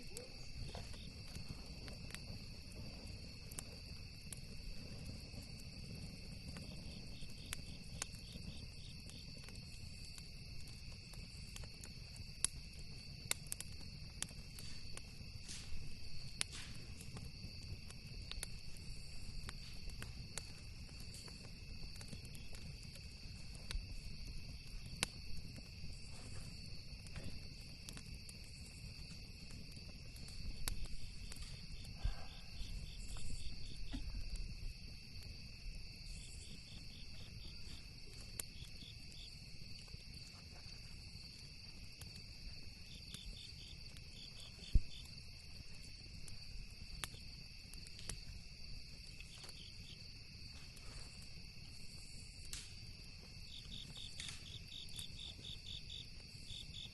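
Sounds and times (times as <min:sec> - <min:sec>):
campfire crackling and popping: 0:00.0 - 0:56.9
insects chirring: 0:00.0 - 0:56.9.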